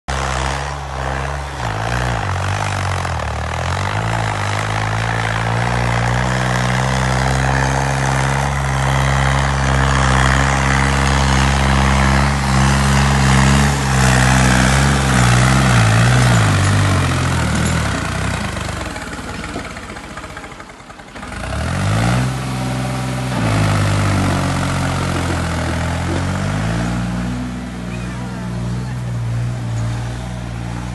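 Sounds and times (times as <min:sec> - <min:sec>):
tractor diesel engine under load: 0:00.1 - 0:30.9.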